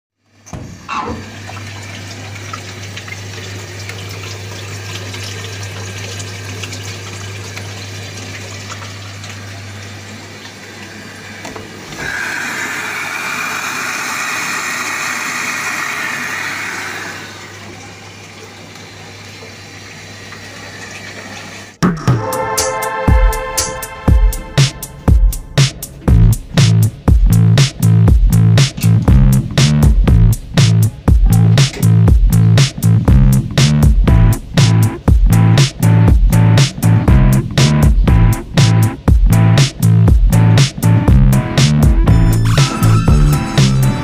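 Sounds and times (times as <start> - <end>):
water running in washing machine: 0.2 - 44.0
washing machine low hum: 0.3 - 44.0.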